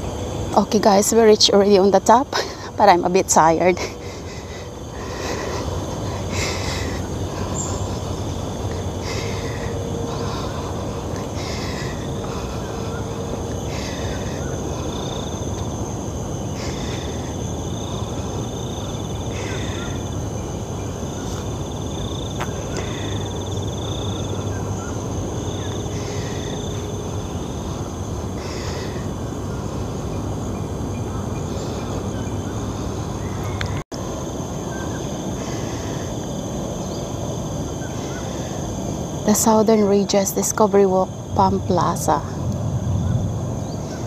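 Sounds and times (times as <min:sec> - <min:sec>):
steady high whine: 0:00.0 - 0:44.0.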